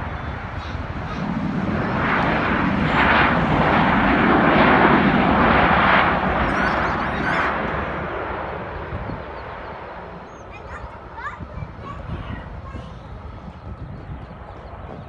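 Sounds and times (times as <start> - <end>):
jet engine rushing: 0.0 - 15.0.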